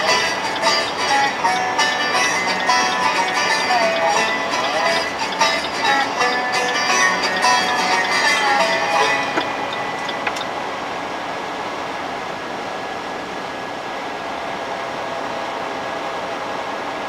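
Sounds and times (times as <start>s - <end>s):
faint high whine: 0.0s - 17.0s
road and tyre noise in car: 0.0s - 17.0s.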